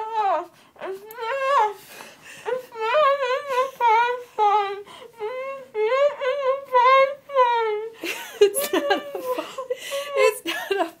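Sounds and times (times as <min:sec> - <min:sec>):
woman whimpering: 0:00.0 - 0:11.0.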